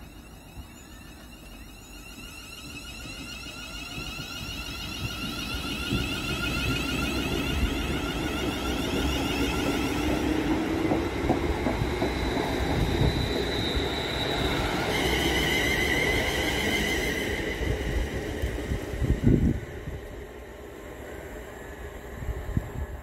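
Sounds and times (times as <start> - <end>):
electric train whine: 0.0 - 23.0.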